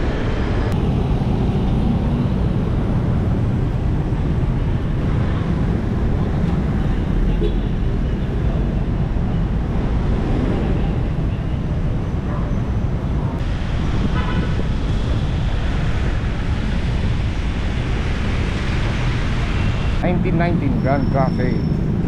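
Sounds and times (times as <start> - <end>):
wind rumble on microphone: 0.0 - 20.0
car and motorbike traffic: 0.0 - 22.0.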